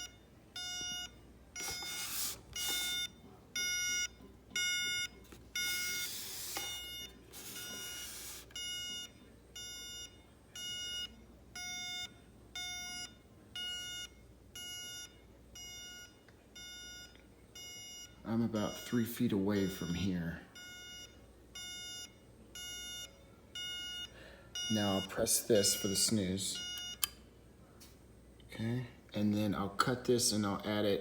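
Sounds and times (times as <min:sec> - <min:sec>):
alarm clock buzzy beeping: 0:00.0 - 0:27.1.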